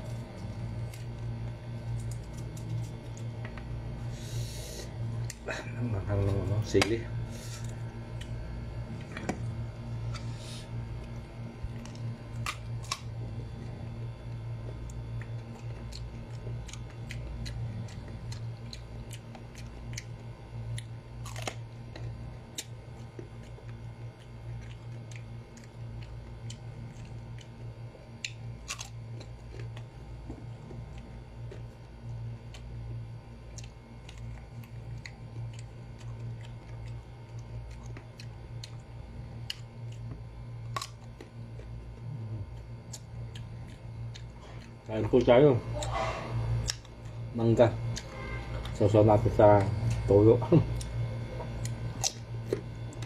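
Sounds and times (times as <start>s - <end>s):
crunchy bites and chewing: 0.0s - 53.0s
low hum: 0.0s - 53.0s.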